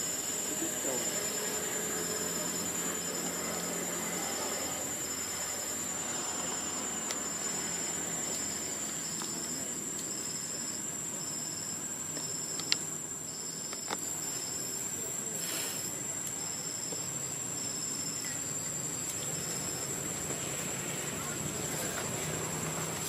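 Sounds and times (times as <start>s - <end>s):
insect chirps: 0.0s - 23.0s
insect high-pitched buzz: 0.0s - 23.0s.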